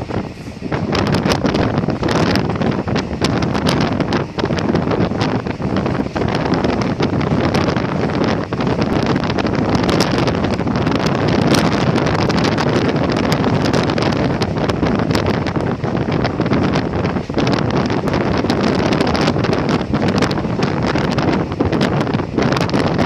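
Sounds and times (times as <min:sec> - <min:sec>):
train running noise: 0:00.0 - 0:23.0
wind rushing over microphone: 0:00.0 - 0:23.0.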